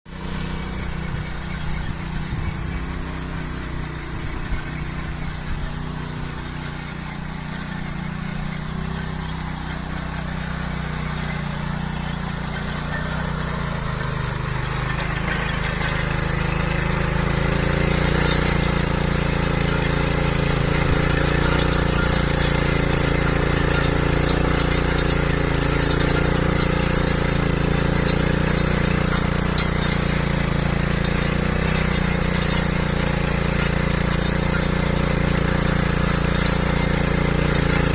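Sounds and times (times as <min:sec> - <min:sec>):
cultivator engine running: 0:00.1 - 0:37.9.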